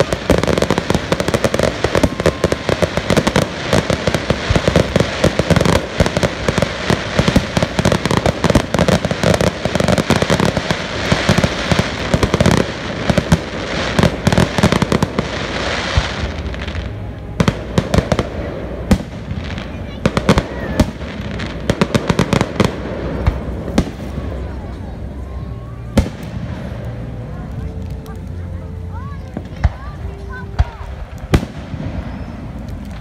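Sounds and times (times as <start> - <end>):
fireworks popping and banging: 0.0 - 25.0, 25.9 - 28.5, 29.1 - 33.0.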